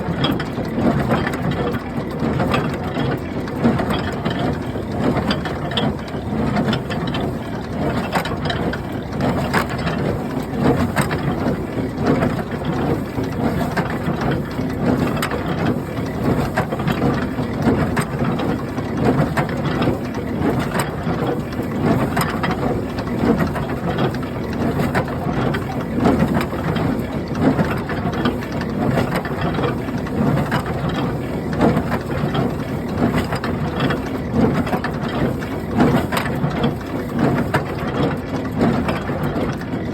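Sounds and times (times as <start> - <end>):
hay baler clattering: 0.0 - 39.9.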